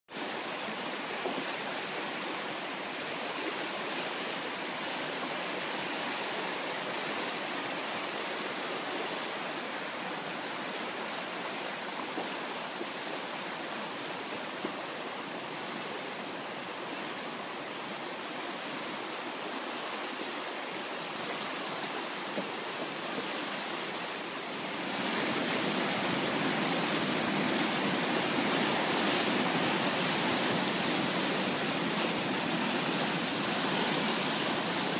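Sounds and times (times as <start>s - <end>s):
flood water rushing: 0.1s - 34.9s.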